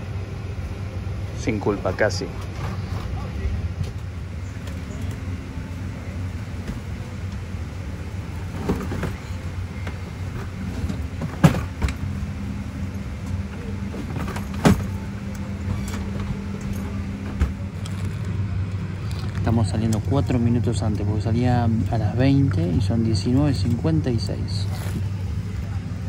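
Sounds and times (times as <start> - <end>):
airliner cabin hum: 0.0 - 26.0.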